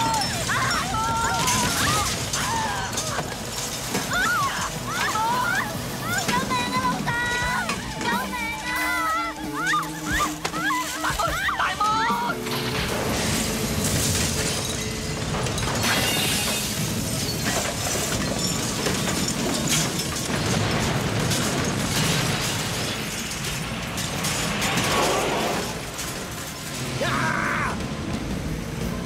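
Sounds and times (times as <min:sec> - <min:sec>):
clattering debris: 0:00.0 - 0:29.0
crashing metal: 0:00.0 - 0:29.0.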